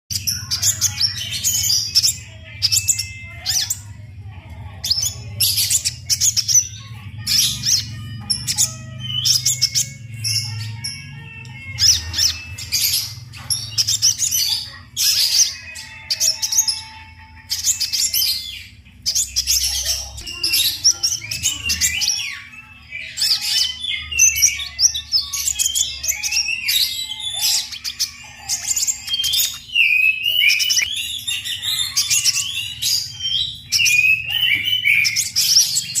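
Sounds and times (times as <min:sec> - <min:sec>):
sunbird chirps and trills: 0:00.1 - 0:36.0.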